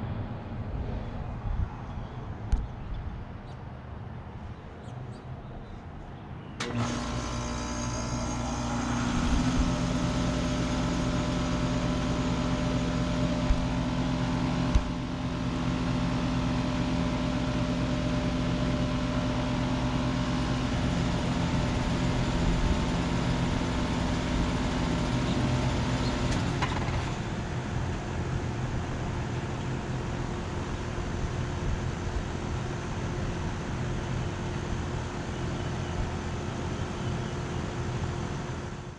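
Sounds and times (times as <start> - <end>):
air conditioner unit humming: 6.6 - 38.9.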